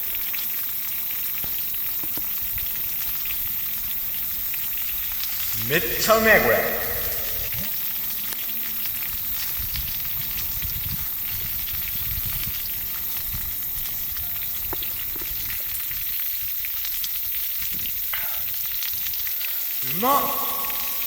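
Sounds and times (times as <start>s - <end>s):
campfire crackles: 0.0s - 21.0s
food sizzling in a pan: 0.0s - 21.0s.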